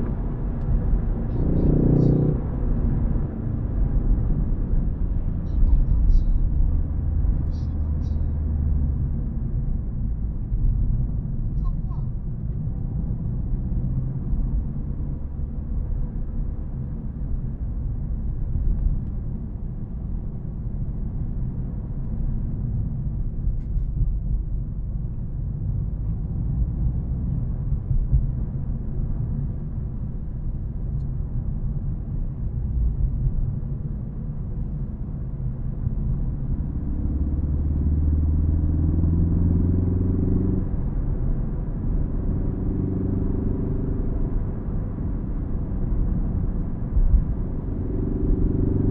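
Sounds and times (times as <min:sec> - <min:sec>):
car engine droning: 0:00.0 - 0:48.9
road noise: 0:00.0 - 0:48.9.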